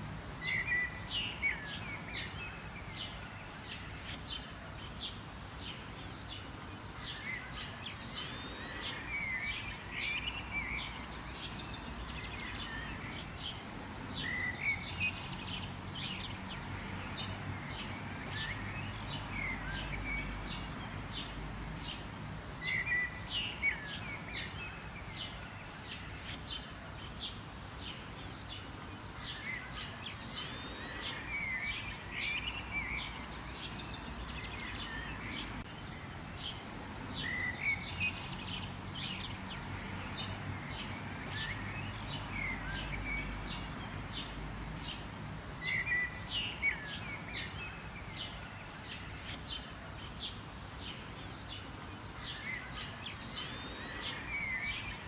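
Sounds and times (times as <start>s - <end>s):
birds chirping and calling: 0.4s - 55.0s.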